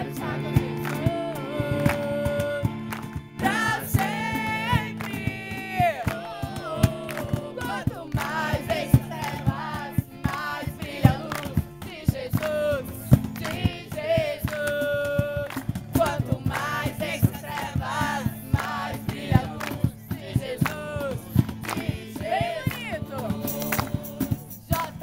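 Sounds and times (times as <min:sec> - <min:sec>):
instrumental accompaniment: 0:00.0 - 0:25.0
voices singing worship song: 0:00.0 - 0:25.0.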